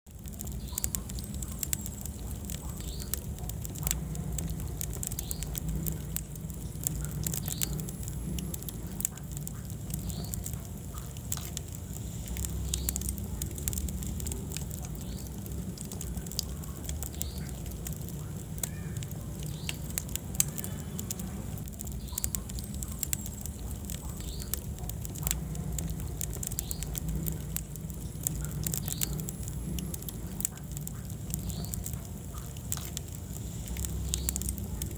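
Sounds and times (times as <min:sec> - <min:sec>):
low flame rumble: 0:00.0 - 0:34.9
wood fire crackling and popping: 0:00.0 - 0:34.9.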